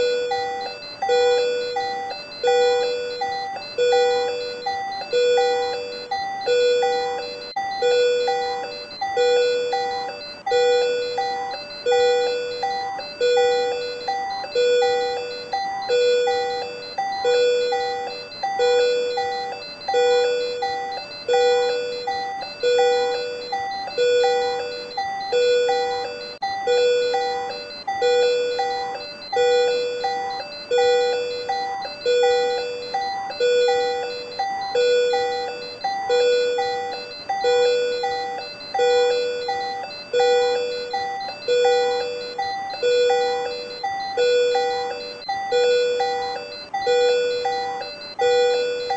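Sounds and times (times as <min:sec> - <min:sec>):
patient monitor alarm beeping: 0:00.0 - 0:48.9.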